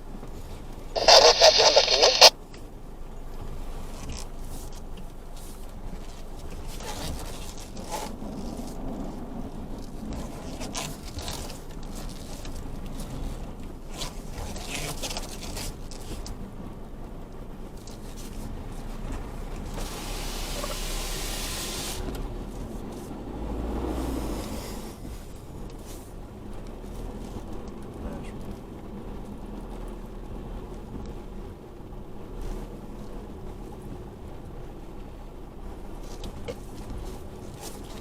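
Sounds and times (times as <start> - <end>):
low engine rumble: 0.0 - 38.0.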